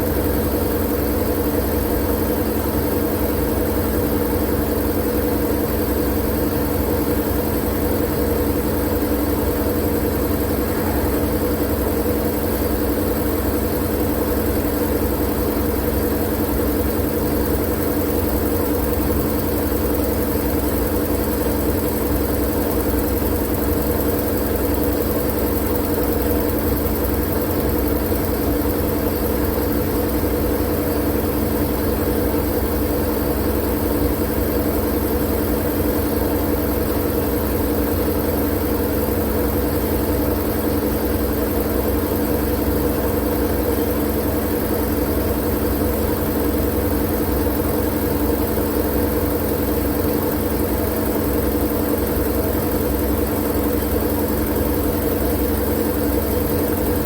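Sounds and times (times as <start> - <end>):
machine drone with hiss: 0.0 - 57.0.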